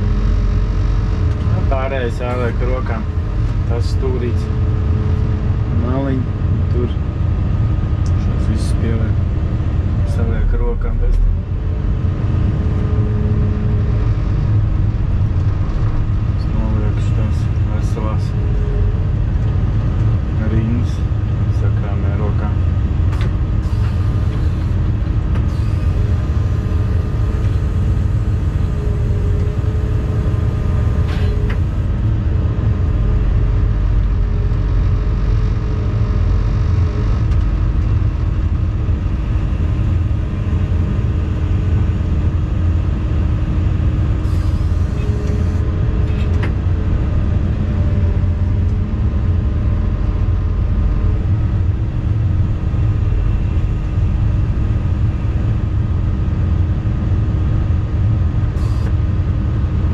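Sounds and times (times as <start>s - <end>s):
excavator diesel engine running: 0.0s - 59.9s
hydraulic whine: 0.0s - 59.9s.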